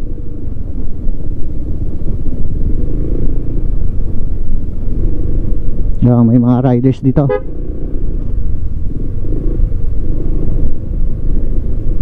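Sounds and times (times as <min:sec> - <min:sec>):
motorcycle engine rumble: 0:00.0 - 0:12.0
road rumble: 0:00.0 - 0:12.0.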